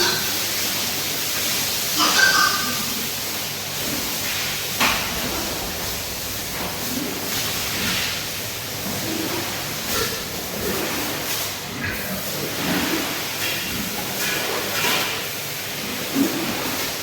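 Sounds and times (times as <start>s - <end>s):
water sprayer hissing: 0.0s - 17.0s.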